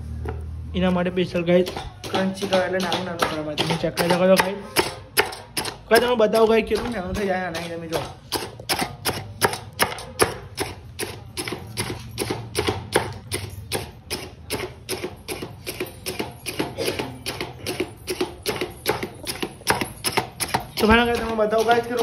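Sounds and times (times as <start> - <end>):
knife chopping onion: 0.9 - 22.0.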